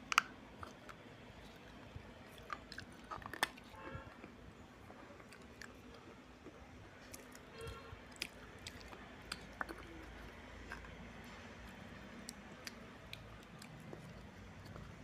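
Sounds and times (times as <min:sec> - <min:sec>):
person chewing and crunching clay: 0:00.0 - 0:15.0.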